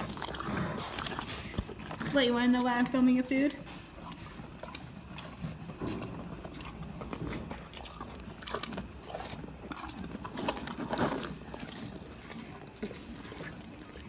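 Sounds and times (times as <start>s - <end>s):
horse crunching feed: 0.0s - 14.0s.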